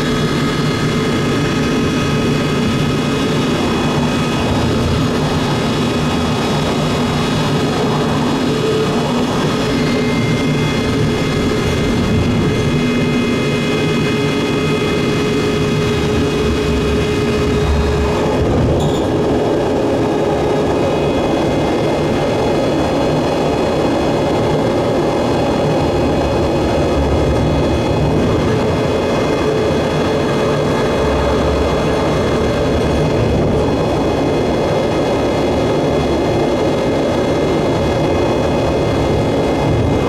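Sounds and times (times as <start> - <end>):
train running gear drone: 0.0 - 40.0.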